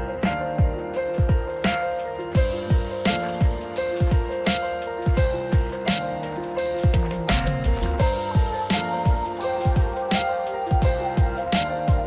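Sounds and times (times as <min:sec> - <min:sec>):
lo-fi hip-hop music: 0:00.0 - 0:12.0.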